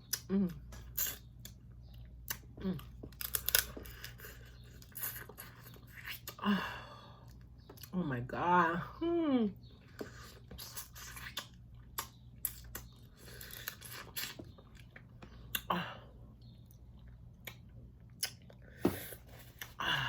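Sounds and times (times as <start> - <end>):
person chewing with wet crunches: 0.0 - 8.0, 9.7 - 19.8.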